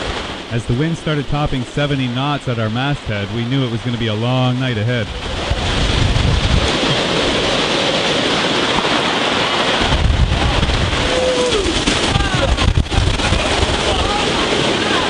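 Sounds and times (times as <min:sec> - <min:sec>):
heavy rain lashing down: 0:00.0 - 0:15.0
hurricane wind: 0:00.0 - 0:15.0
wind gusts hitting microphone: 0:00.0 - 0:15.0.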